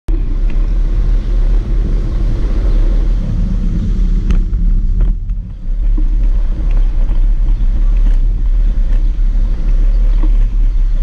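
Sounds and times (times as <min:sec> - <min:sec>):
bicycle road vibration: 0:00.1 - 0:11.0
wind buffeting a camera: 0:00.1 - 0:11.0.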